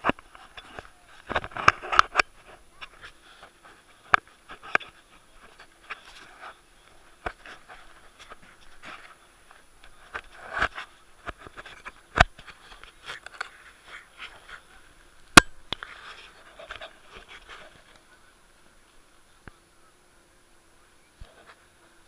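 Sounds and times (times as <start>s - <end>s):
camera handling rustling and scraping: 0.0s - 18.0s.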